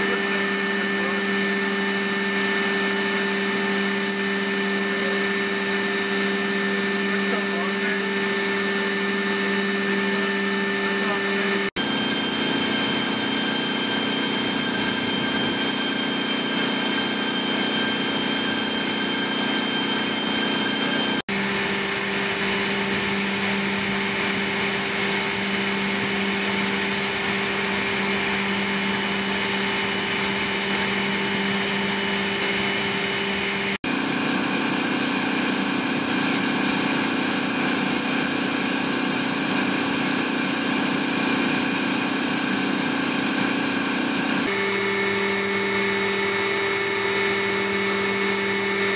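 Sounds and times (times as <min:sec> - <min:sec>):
aircraft turbine whine and drone: 0:00.0 - 0:48.9.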